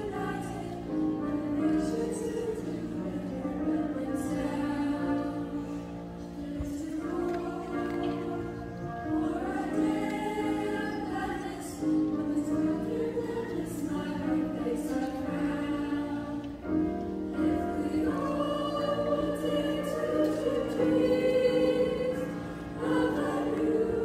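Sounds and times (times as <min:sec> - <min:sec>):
grand piano accompaniment: 0:00.0 - 0:24.0
youth choir singing: 0:00.0 - 0:24.0.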